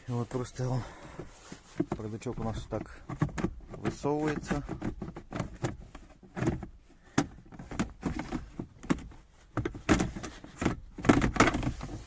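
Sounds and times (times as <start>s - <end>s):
plastic knocks and clicks: 1.1s - 12.0s.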